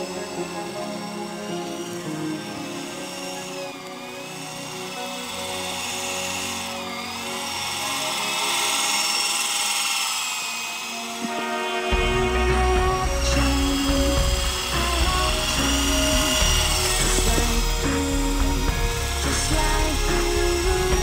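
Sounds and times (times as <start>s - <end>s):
rc helicopter rotor whine: 0.0s - 21.0s.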